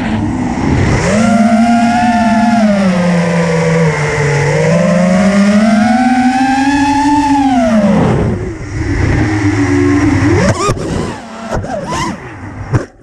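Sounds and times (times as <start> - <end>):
drone motors and propellers whining: 0.0 - 13.0.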